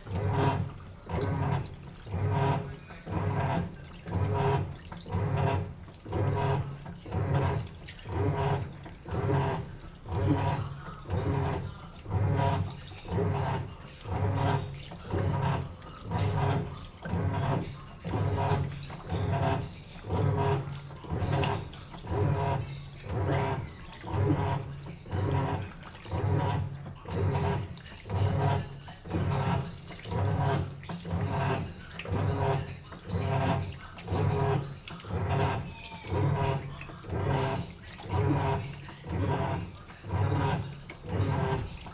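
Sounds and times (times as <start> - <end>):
washing machine motor humming: 0.0 - 41.9
water sloshing in washing machine: 0.0 - 41.9.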